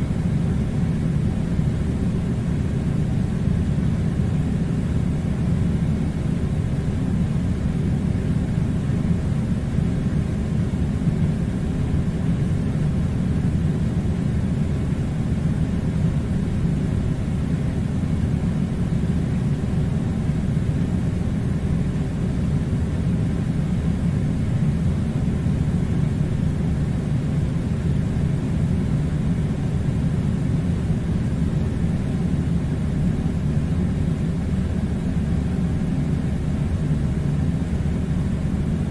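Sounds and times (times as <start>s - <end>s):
air conditioner running: 0.0s - 38.9s.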